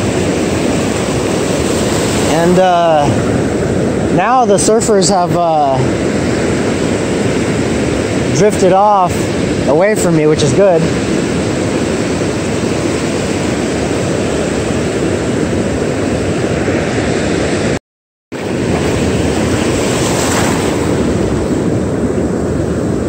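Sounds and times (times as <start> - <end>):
surf breaking on beach: 0.0 - 17.8, 18.4 - 23.0
wind on microphone: 0.0 - 17.8, 18.4 - 23.0.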